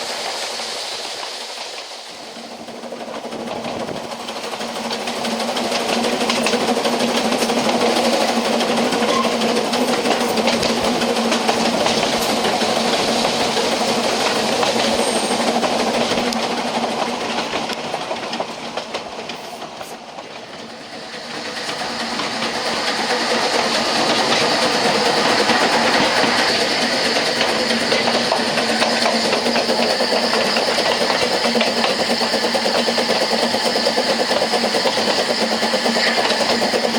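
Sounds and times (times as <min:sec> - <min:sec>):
train wheels clattering on rail: 0:00.0 - 0:36.9.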